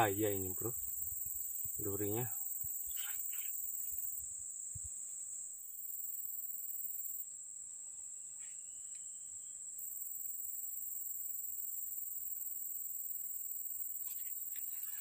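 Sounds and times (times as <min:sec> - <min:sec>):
higher insect layer: 0:00.0 - 0:15.0
insects droning: 0:00.0 - 0:15.0.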